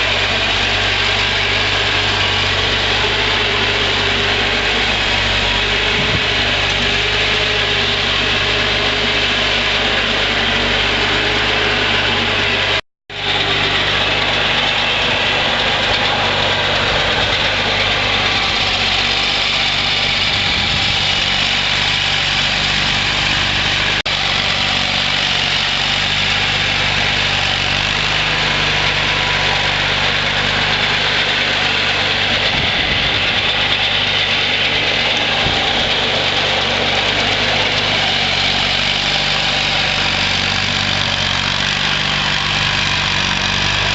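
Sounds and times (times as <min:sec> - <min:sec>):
garden tractor engine running: 0:00.0 - 0:43.9.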